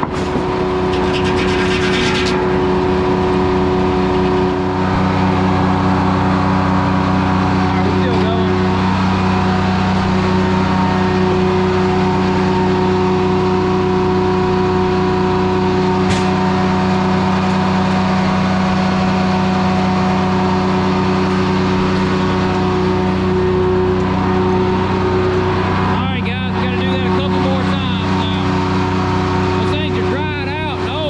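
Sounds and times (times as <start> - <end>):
sawmill machine hum: 0.0 - 31.0.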